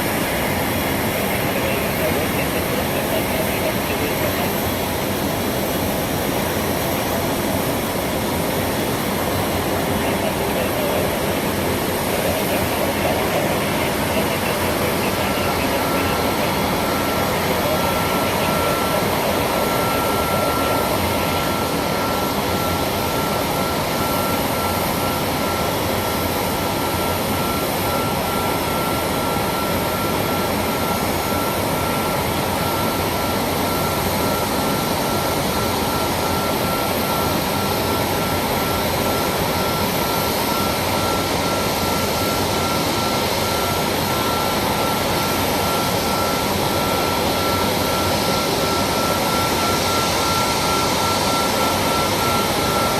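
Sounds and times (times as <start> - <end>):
jet engines in aircraft cabin: 0.0 - 52.9
thin steady whine: 0.0 - 52.9.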